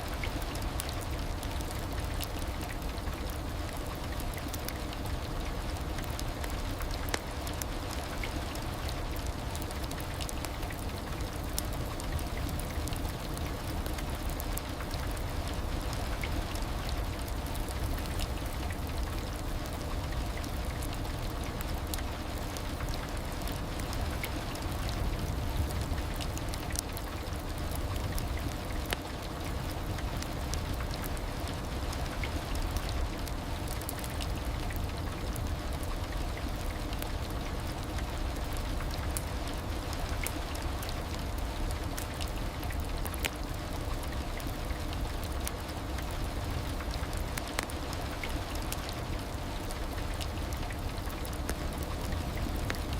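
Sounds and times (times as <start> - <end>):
faint steady hum: 0.0 - 52.9
heavy rain: 0.0 - 52.9.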